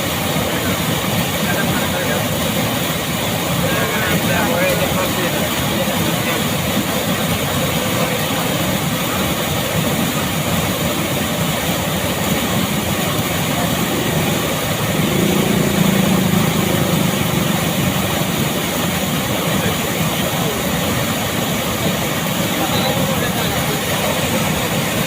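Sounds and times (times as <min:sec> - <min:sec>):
water gushing from a well: 0:00.0 - 0:25.0.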